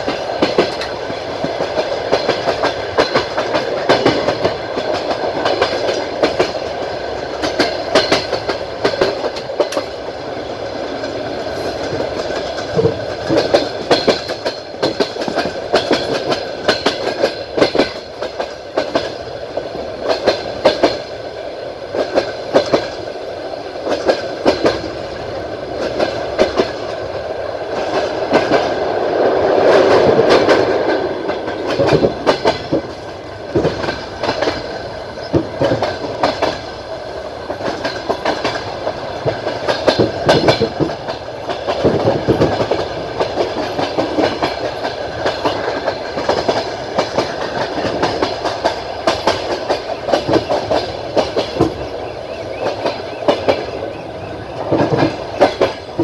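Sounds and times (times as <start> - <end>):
steady train rumble: 0.0 - 56.0
train wheels clattering over rail joints: 0.0 - 56.0.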